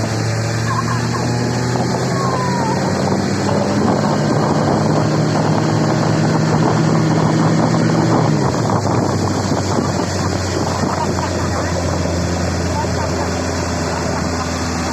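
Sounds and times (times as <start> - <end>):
motorboat engine running: 0.0 - 14.9
wind buffeting microphone: 1.0 - 14.9.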